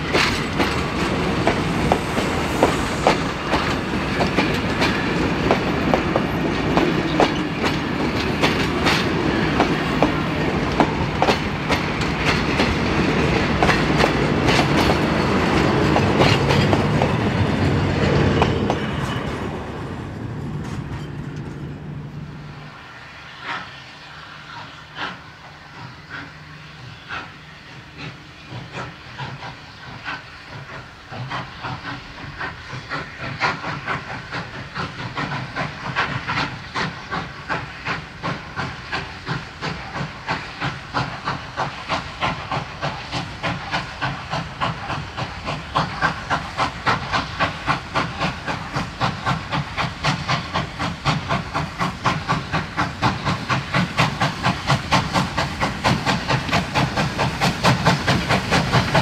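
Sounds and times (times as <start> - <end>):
steam hissing: 0.0 - 20.6, 21.6 - 59.0
steam locomotive exhaust beats: 0.0 - 59.0.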